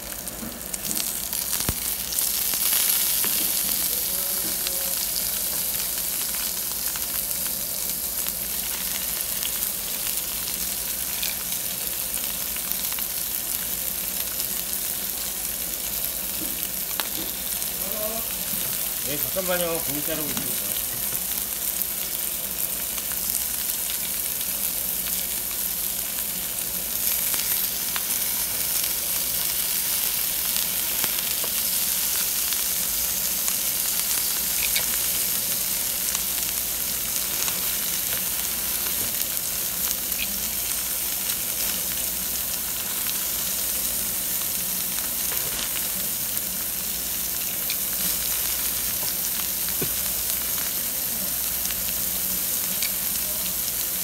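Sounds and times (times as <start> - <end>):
meat sizzling on a grill: 0.0 - 54.0.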